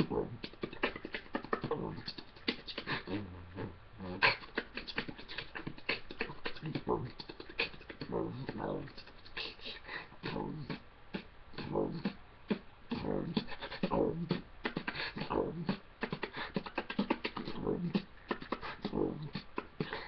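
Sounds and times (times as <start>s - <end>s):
man beatboxing: 0.0s - 20.0s.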